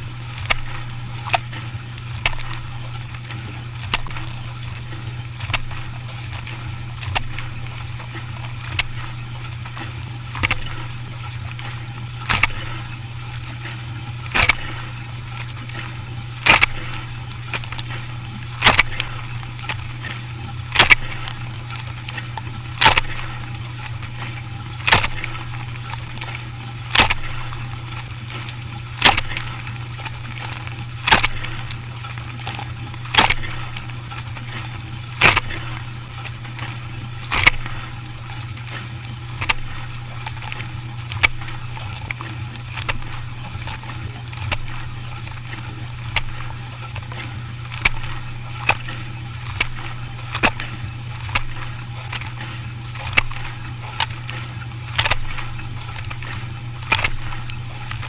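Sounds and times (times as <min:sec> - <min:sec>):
dishwasher humming: 0:00.0 - 0:58.0
small clicks and knocks: 0:00.3 - 0:01.5, 0:02.2 - 0:13.5, 0:14.3 - 0:14.8, 0:15.4 - 0:35.8, 0:36.4 - 0:37.9, 0:38.5 - 0:58.0.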